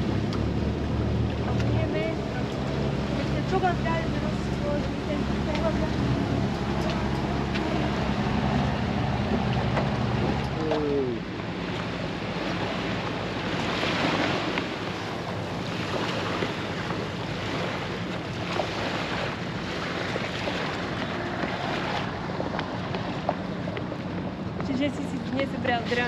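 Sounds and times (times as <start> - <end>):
water rushing past: 0.0 - 24.4
boat engine hum: 0.0 - 26.0.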